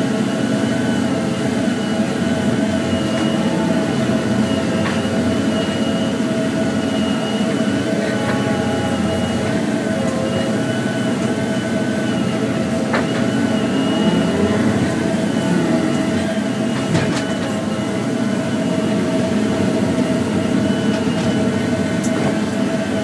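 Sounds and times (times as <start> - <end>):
diesel engine and hydraulics: 0.0 - 23.0
hydraulic whine: 0.0 - 23.0.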